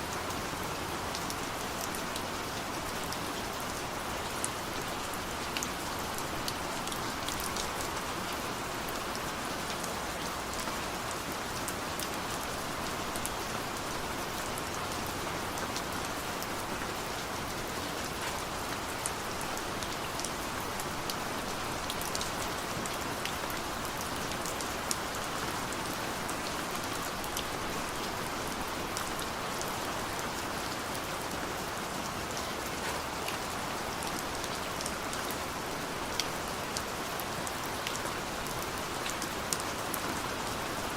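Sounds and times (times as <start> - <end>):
steady rain hiss: 0.0 - 40.9
raindrops ticking on surface: 0.1 - 40.9.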